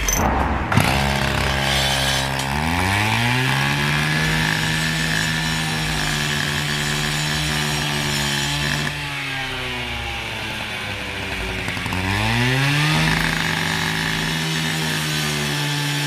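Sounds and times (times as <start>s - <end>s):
small petrol engine revving: 2.5s - 16.0s.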